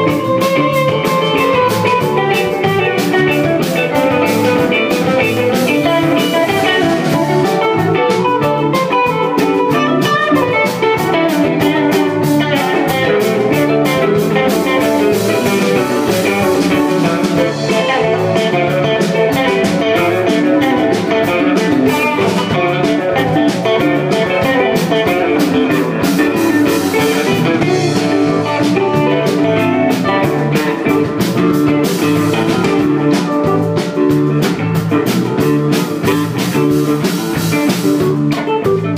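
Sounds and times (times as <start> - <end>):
bass: 0.0 - 38.9
drum kit: 0.0 - 38.9
electric guitars: 0.0 - 38.9
electric keyboard: 0.0 - 38.9.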